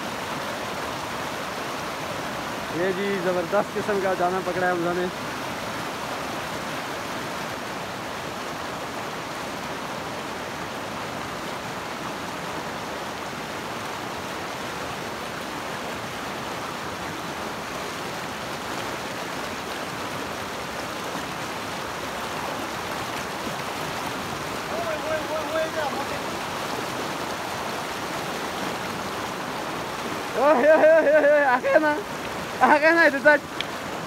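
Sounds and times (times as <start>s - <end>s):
stream rushing: 0.0s - 34.0s.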